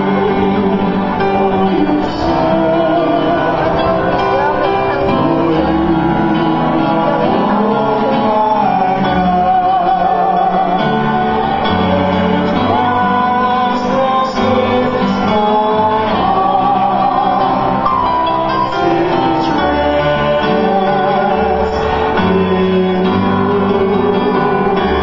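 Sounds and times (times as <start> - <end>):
instrumental accompaniment: 0.0 - 25.0
man and woman singing: 0.0 - 25.0.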